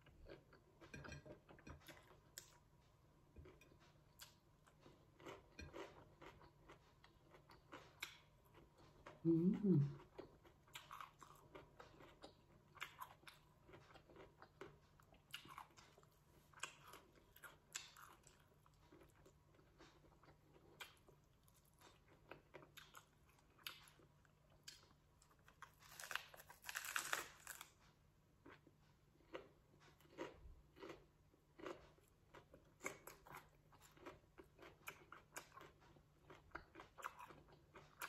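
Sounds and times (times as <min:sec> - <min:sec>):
chewing and crunching lettuce: 0:00.0 - 0:38.0.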